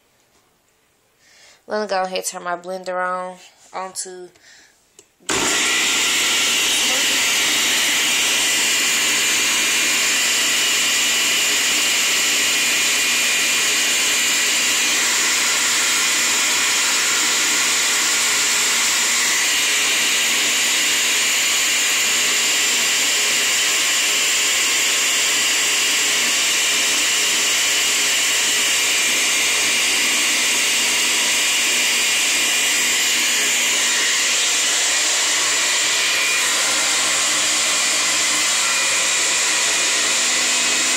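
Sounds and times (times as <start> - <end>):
blender motor whirring: 5.3 - 40.9.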